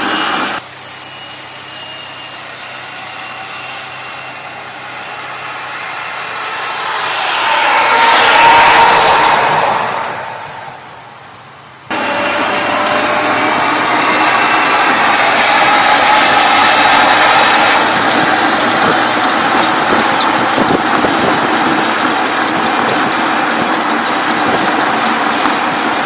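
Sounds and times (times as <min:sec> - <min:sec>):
vehicle engine hum with whine: 0:00.0 - 0:26.0.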